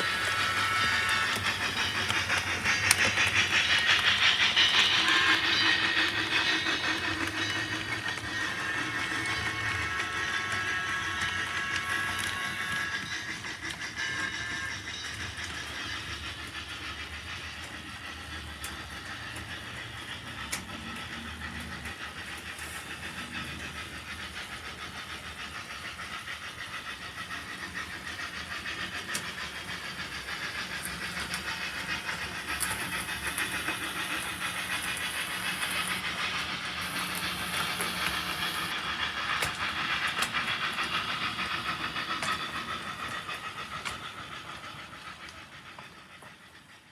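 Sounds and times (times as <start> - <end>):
model train rolling on track: 0.0 - 46.9.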